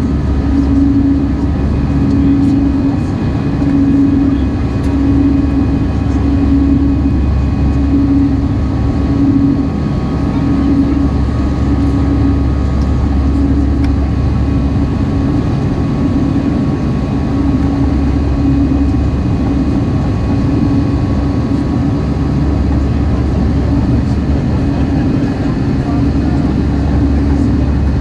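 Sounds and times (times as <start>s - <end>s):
jet engines droning: 0.0s - 28.0s.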